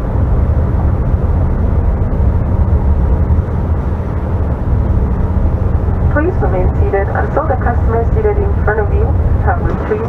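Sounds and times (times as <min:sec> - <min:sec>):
faint steady hum: 0:00.0 - 0:10.0
jet engines idling: 0:00.0 - 0:10.0.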